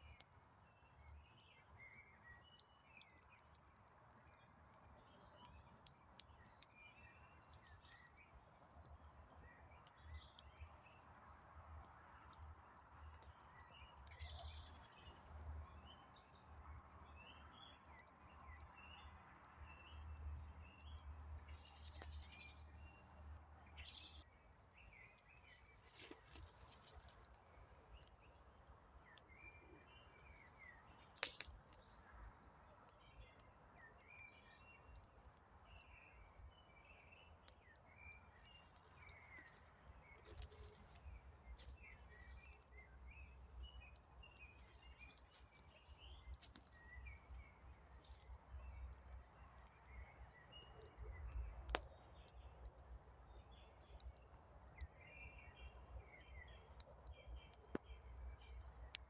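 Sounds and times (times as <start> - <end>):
small birds chirping: 0.0 - 59.0
wood campfire crackling: 0.0 - 59.0.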